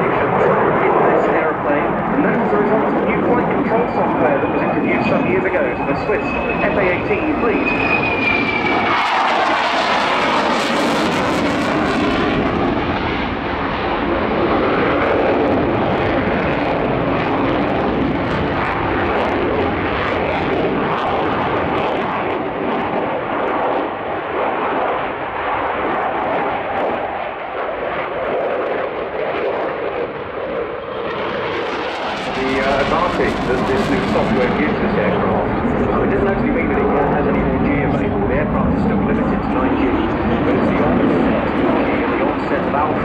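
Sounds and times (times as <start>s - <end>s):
aircraft engine roar: 0.0s - 43.0s.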